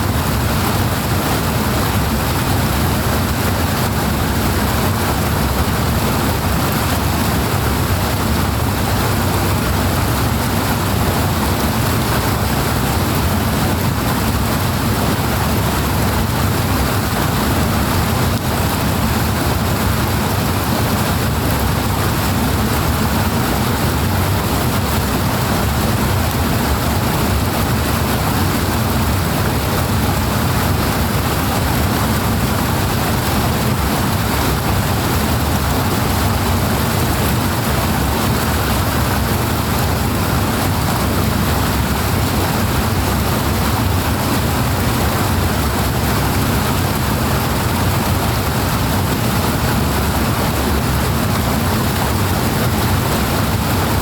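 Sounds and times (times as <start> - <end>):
powerful rushing water: 0.0 - 54.0.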